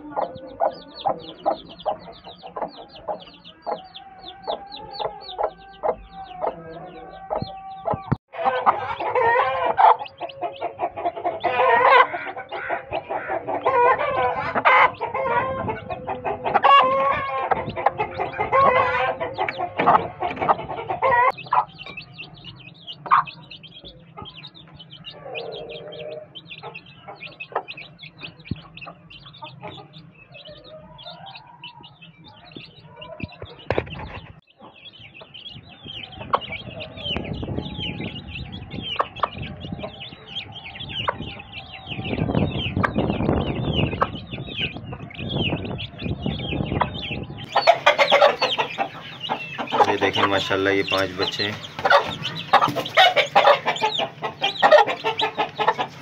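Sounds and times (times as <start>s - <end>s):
chicks peeping: 0.0s - 56.0s
hen clucking: 0.0s - 56.0s.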